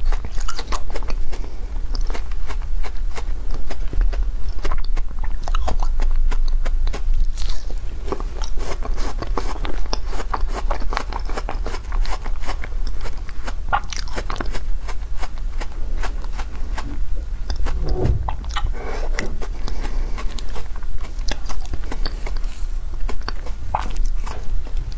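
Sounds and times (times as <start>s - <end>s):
chewing crunchy ice: 0.0s - 17.8s, 19.2s - 24.9s.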